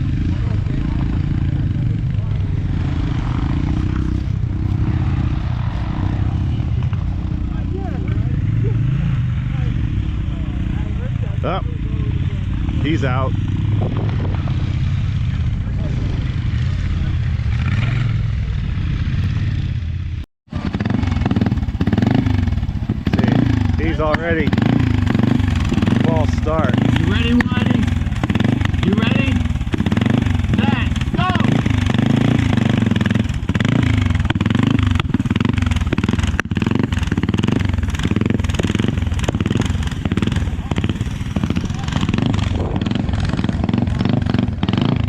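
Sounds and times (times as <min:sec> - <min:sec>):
motorcycle engines running slowly: 0:00.0 - 0:45.0.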